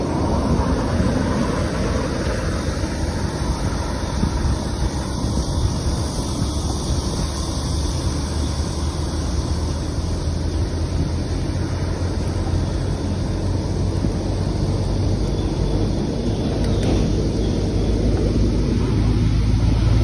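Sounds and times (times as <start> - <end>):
bicycle tyre road noise: 0.0 - 20.0
wind on microphone: 0.0 - 20.0.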